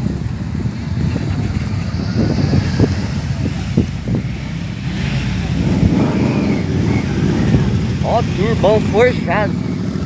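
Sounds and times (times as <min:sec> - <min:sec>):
car engine rumbling: 0:00.0 - 0:10.0
wind on microphone: 0:00.0 - 0:10.0.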